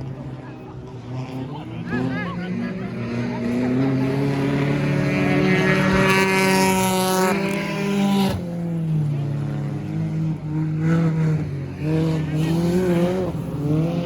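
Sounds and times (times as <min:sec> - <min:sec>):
loud passing race car: 0:00.0 - 0:14.0
race car engines: 0:00.0 - 0:14.0.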